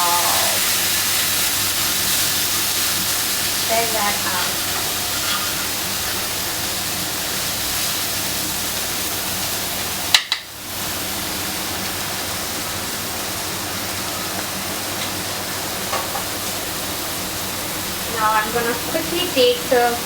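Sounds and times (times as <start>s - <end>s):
chicken sizzling in a skillet: 0.0s - 20.0s.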